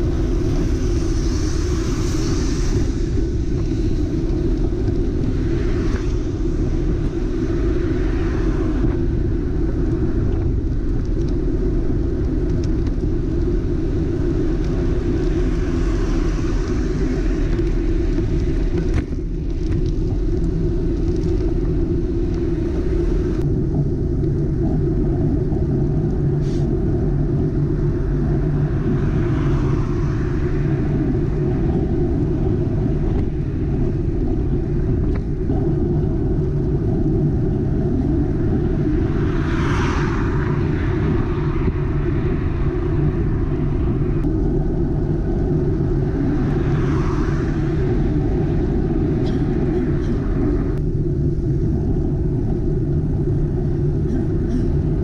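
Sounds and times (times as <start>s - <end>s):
vehicles passing on wet road: 0.0s - 23.5s, 26.0s - 50.8s
wind and road rumble: 0.0s - 55.0s.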